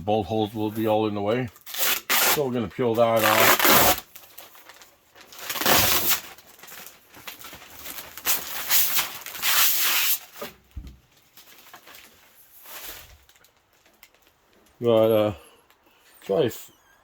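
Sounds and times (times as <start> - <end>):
plastic film peeling off: 1.5 - 15.8.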